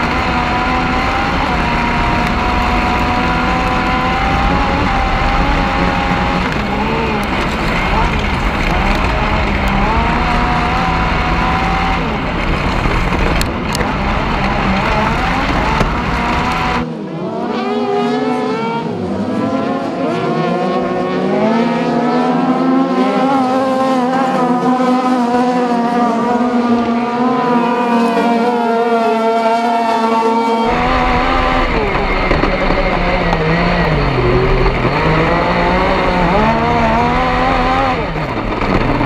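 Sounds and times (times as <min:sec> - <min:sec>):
car engines revving: 0:00.0 - 0:39.0
kart engine running hard: 0:00.0 - 0:39.0
wind and dirt roar: 0:00.0 - 0:39.0.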